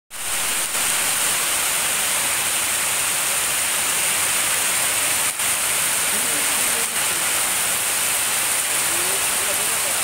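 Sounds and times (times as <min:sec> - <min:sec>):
heavy rain on grass: 0:00.1 - 0:10.0.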